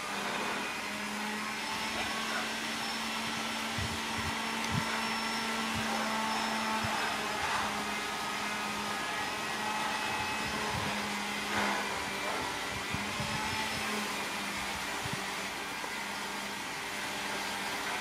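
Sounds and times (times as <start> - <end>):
machine whirring hum: 0.0 - 18.0.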